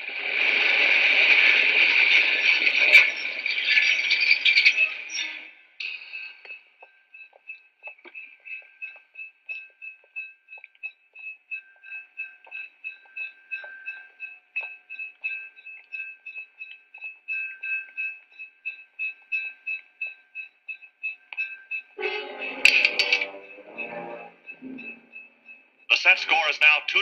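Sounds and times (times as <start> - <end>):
railroad crossing bell ringing: 0.0 - 27.0.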